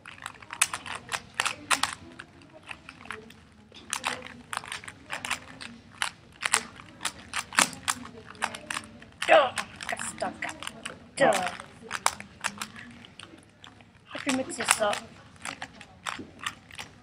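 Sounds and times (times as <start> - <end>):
puzzle cube plastic clicking: 0.0 - 17.0.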